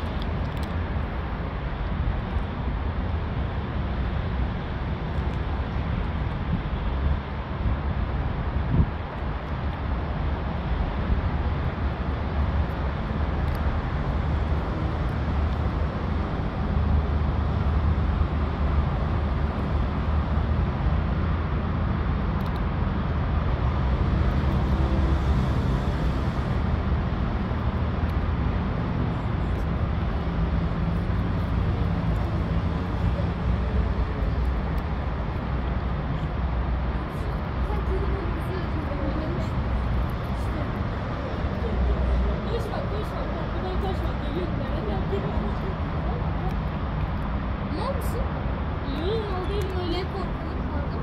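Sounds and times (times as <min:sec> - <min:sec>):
low urban background rumble: 0:00.0 - 0:51.0.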